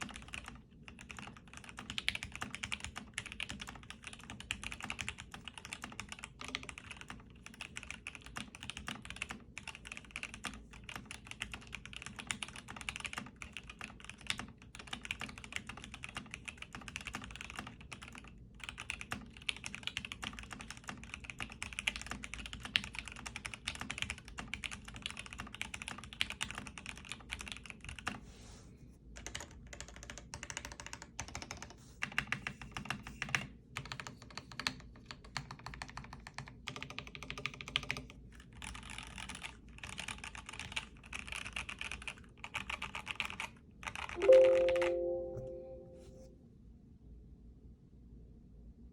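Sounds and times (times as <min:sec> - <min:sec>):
mechanical keyboard typing: 0:00.0 - 0:28.2, 0:29.2 - 0:45.9.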